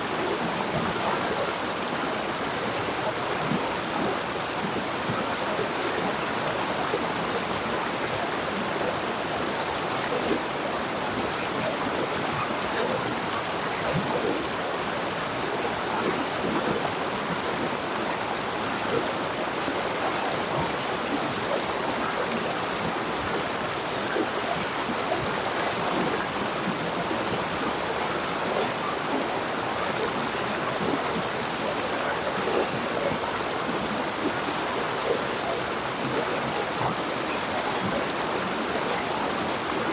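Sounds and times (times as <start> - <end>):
river water splashing over stones: 0.0 - 39.9.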